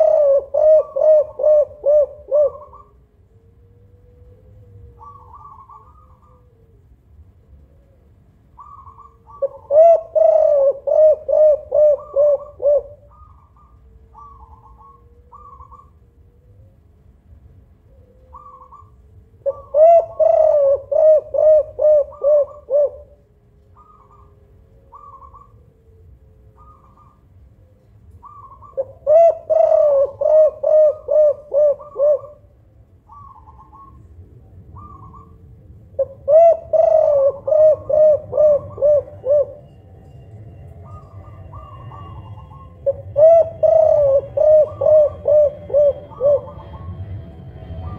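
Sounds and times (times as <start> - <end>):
dove cooing: 0.0 - 17.0, 17.8 - 39.9, 40.8 - 47.1.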